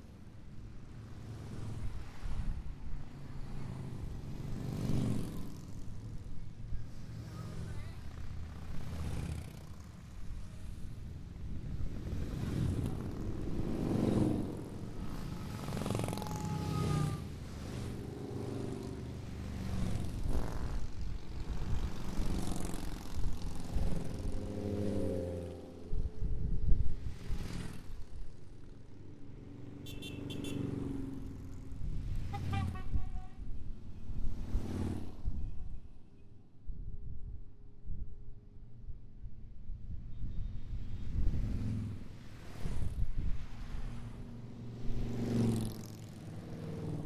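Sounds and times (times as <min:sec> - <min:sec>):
motorcycles riding past: 0:00.0 - 0:35.4, 0:40.4 - 0:47.0.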